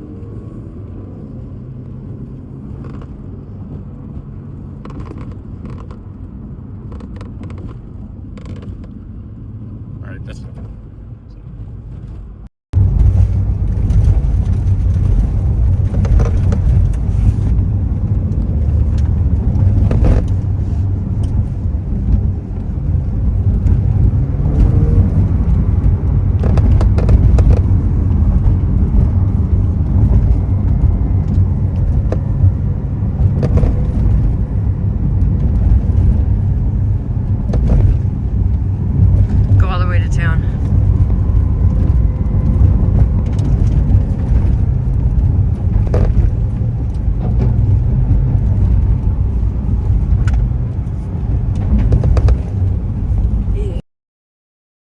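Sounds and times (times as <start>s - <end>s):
low car driving rumble: 0.0s - 53.8s
roof clicks and creaks: 2.3s - 9.1s, 10.5s - 53.6s.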